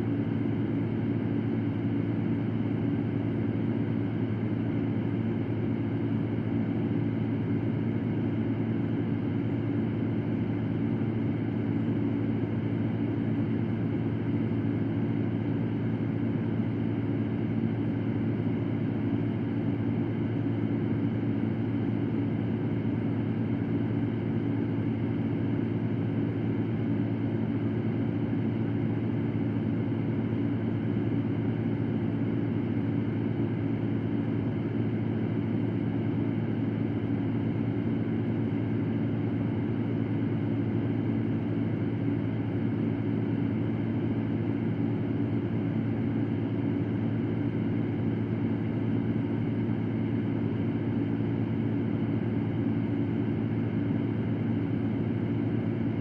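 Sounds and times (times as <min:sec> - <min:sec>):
electric fan whirring: 0:00.0 - 0:56.0.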